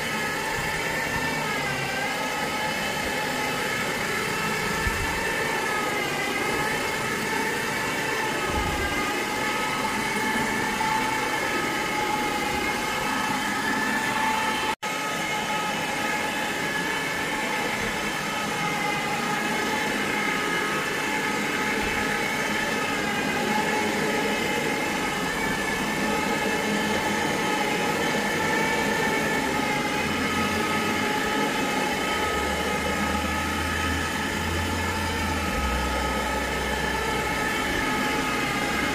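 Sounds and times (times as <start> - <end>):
motor running with high whine: 0.0 - 38.9.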